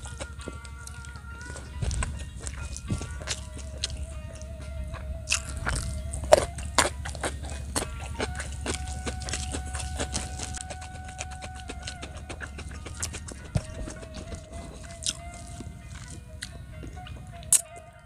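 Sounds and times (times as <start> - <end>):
low steady rumble: 0.0 - 17.4
chewing and crunching: 0.0 - 17.9
soft background music: 0.0 - 18.0.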